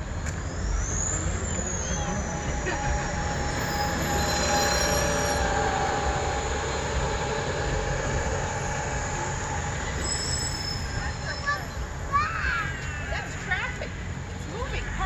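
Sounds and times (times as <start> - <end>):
high-pitched squeal: 0.0 - 14.2
bus engine and road rumble: 0.0 - 15.0.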